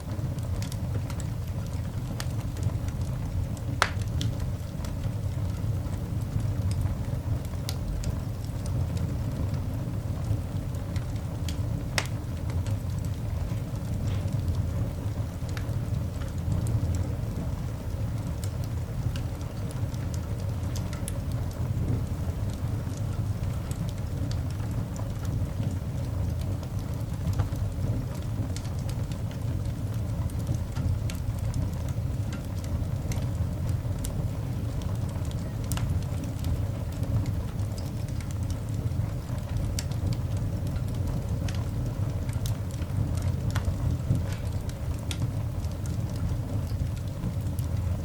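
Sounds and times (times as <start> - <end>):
fire crackling and popping: 0.0 - 48.0
low fire rumble: 0.0 - 48.0.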